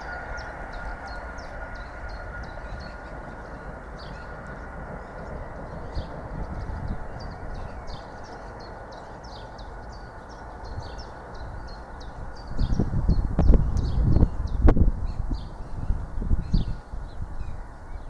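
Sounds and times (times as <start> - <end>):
distant train rumbling: 0.0 - 18.0.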